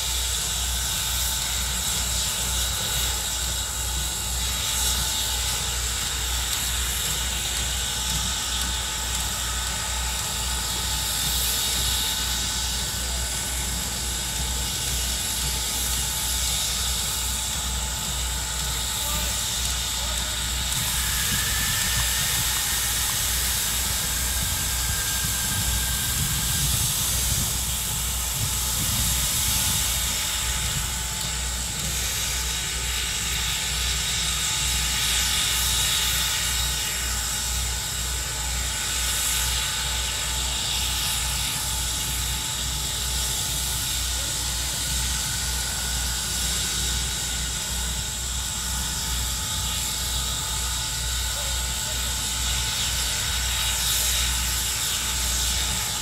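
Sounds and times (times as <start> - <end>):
steam hissing: 0.0 - 56.0.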